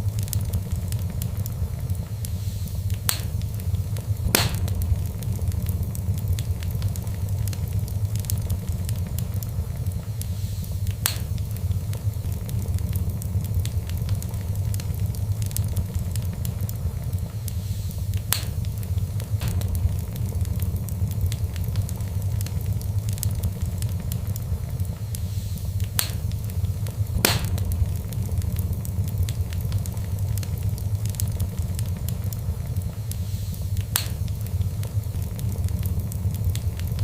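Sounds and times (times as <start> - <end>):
fire crackling and popping: 0.0 - 37.0
low rumble: 0.0 - 37.0.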